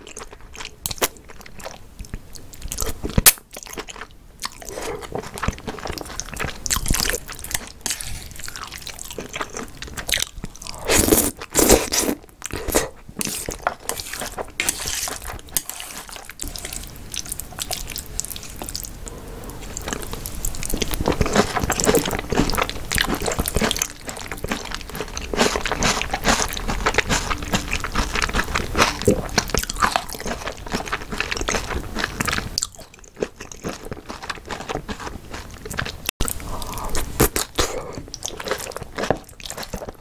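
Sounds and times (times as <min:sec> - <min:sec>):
wet chewing and crunching: 0:00.0 - 0:40.0.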